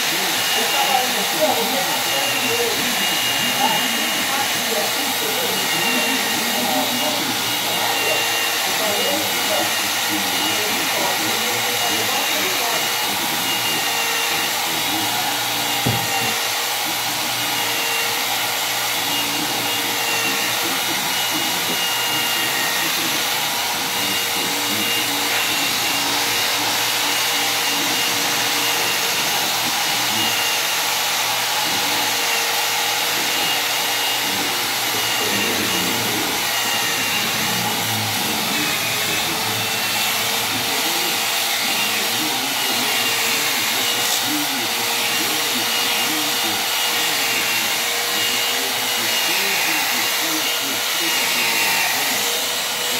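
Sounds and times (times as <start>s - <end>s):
electric polisher whine: 0.0s - 52.9s.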